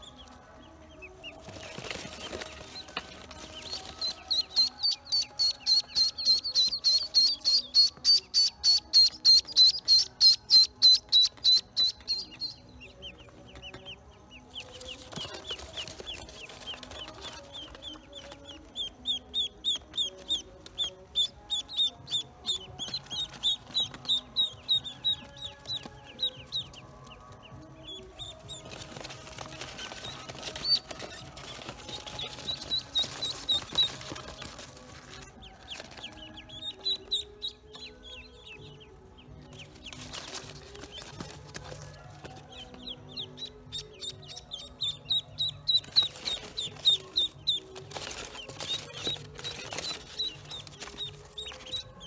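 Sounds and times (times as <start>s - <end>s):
ducklings peeping: 0.0s - 52.0s.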